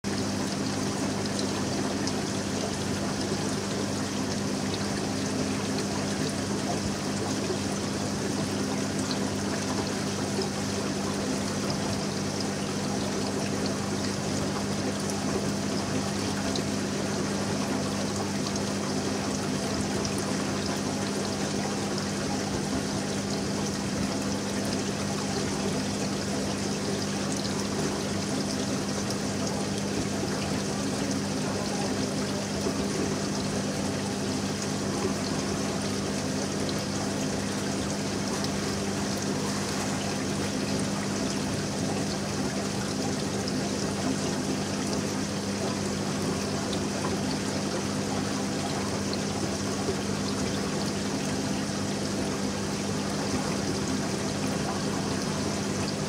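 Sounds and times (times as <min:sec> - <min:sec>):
water trickling and pouring: 0:00.1 - 0:56.0.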